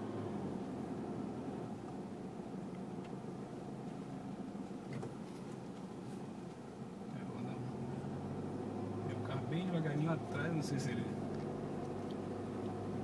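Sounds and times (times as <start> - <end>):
diesel engine drone inside cabin: 0.0 - 13.0
road and tyre noise: 0.0 - 13.0.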